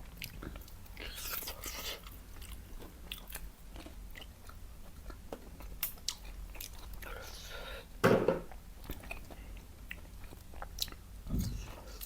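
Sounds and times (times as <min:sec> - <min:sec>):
chewing crunchy food: 0:00.0 - 0:07.7, 0:08.5 - 0:12.0.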